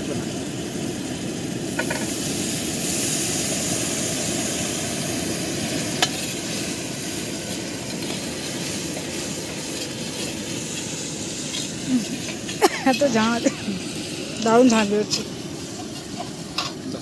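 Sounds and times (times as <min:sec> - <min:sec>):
gas burner flame roar: 0:00.0 - 0:17.0
onions sizzling in oil: 0:00.0 - 0:17.0.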